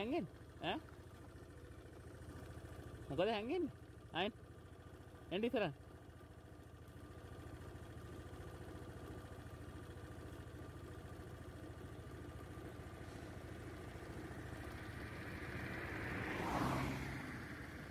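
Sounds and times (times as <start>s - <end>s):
vehicle engine idling: 0.0s - 17.9s.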